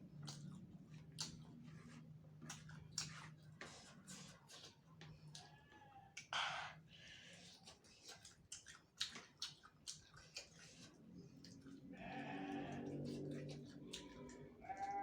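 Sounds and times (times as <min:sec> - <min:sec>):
chewing and crunching bones: 0:00.0 - 0:05.5, 0:07.3 - 0:15.0.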